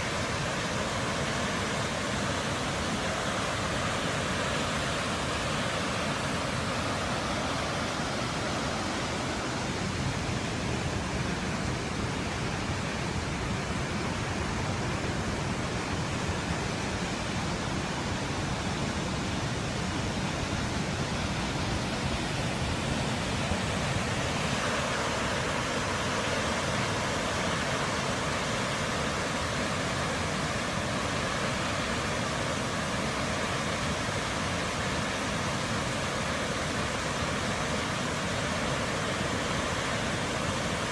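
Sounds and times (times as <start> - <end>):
water rushing from dam spillway: 0.0 - 40.9.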